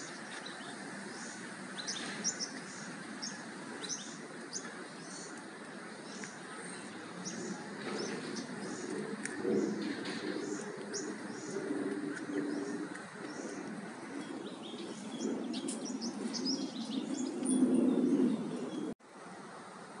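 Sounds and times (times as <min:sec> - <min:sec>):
birds chirping: 0:00.0 - 0:19.0
low outdoor rumble: 0:00.0 - 0:20.0.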